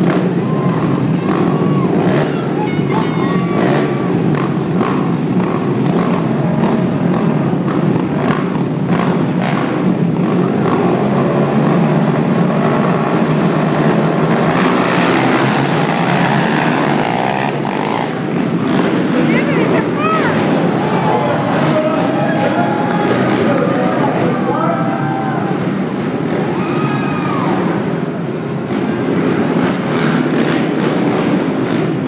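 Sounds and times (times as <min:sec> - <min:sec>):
racing atv engines revving: 0:00.0 - 0:32.0.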